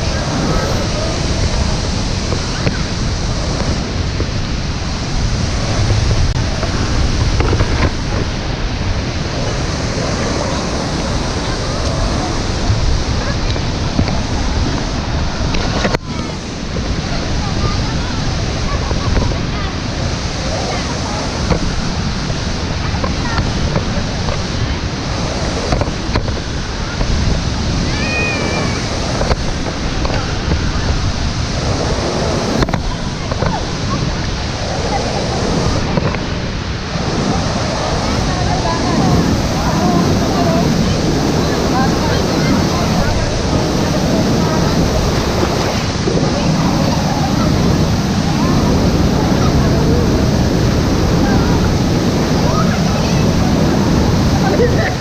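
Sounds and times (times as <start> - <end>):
waterfall rushing: 0.0 - 55.0
wind rumble on microphone: 0.0 - 55.0.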